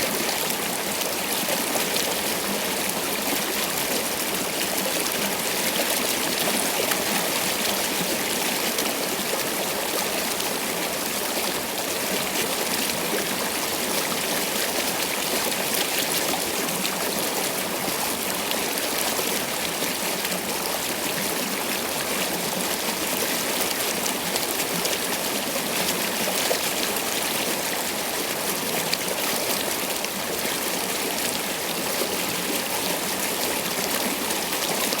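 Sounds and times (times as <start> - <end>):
stream water flowing: 0.0 - 35.0.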